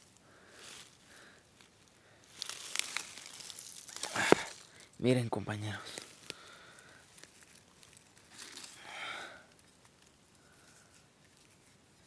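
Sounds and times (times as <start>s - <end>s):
pine needles rustling and crackling: 0.0s - 12.0s.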